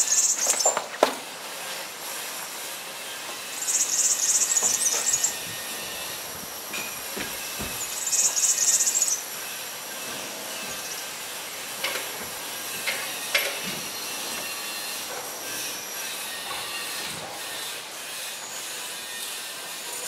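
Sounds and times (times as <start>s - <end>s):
outdoor hiss: 0.0s - 20.0s
loud high buzz: 1.3s - 20.0s.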